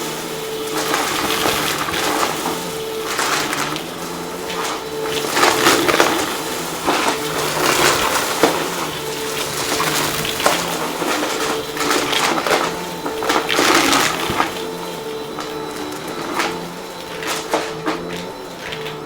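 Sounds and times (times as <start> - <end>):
debris crackling in vacuum: 0.0 - 19.0
vacuum cleaner motor hum: 0.0 - 19.0.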